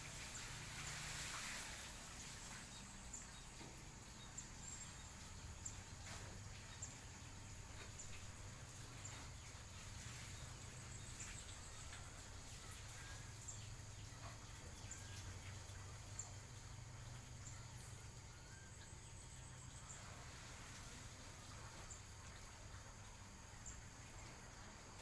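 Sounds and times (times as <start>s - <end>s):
faint chirps: 0.0s - 25.0s
steady hiss: 0.0s - 25.0s.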